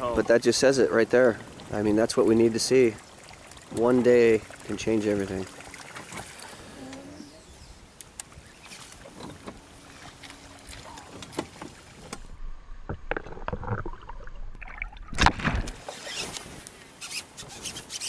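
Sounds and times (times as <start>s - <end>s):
water splashing: 0.0s - 16.2s.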